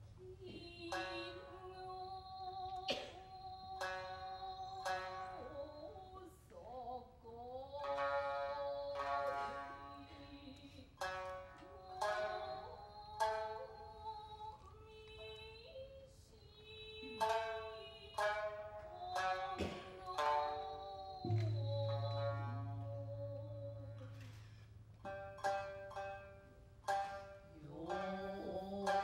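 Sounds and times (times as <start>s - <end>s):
plucked shamisen notes: 0.6s - 15.4s, 16.9s - 29.0s.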